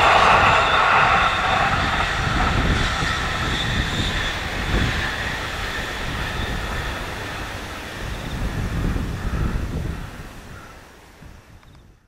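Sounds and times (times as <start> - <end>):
electric train passing: 0.0 - 10.2.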